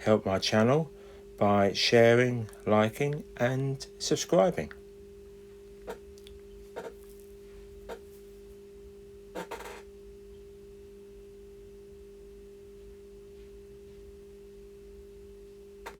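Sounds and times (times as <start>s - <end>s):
low two-tone hum: 0.0s - 15.9s.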